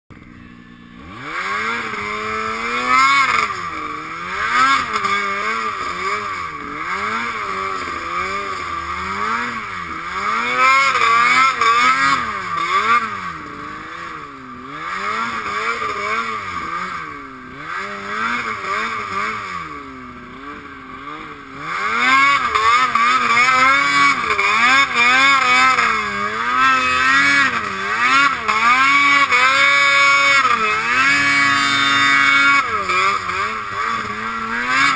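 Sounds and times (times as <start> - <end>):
snowmobile engine revving: 0.2 - 34.9.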